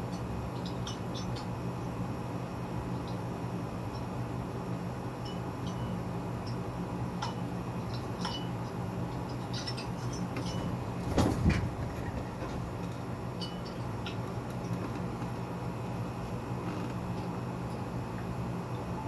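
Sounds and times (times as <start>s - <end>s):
ceiling fan motor hum: 0.0s - 19.0s.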